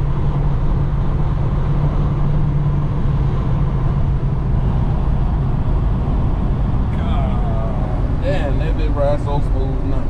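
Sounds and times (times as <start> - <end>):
car engine hum: 0.0 - 10.0
tyre and road noise: 0.0 - 10.0.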